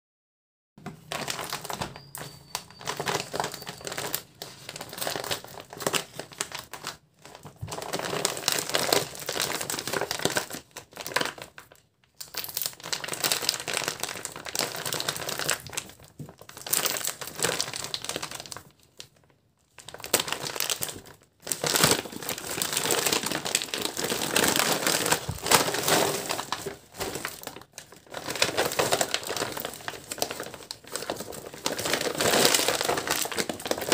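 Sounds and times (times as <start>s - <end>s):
plastic packaging crinkling: 0.8s - 33.9s.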